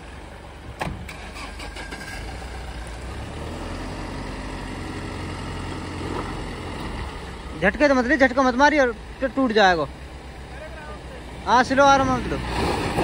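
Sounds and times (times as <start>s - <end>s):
diesel engines under load: 0.0s - 13.0s.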